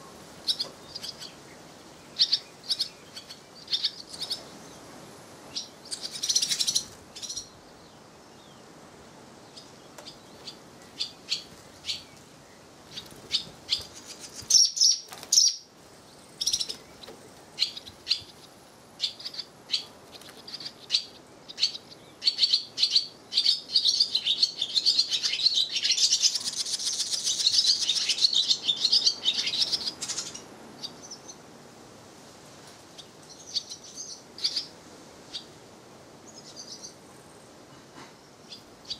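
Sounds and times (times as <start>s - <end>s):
swallows chirping and twittering: 0.4s - 8.6s, 9.4s - 12.2s, 12.9s - 31.4s, 32.9s - 35.5s, 36.2s - 38.9s.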